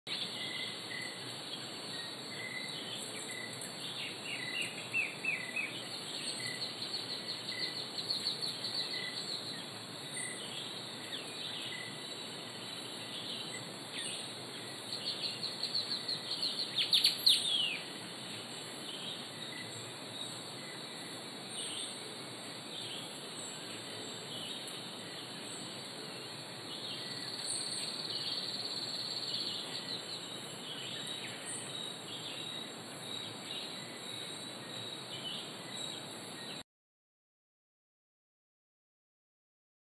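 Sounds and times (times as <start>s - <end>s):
birdsong: 0.1s - 36.6s
insects chirping: 0.1s - 36.6s.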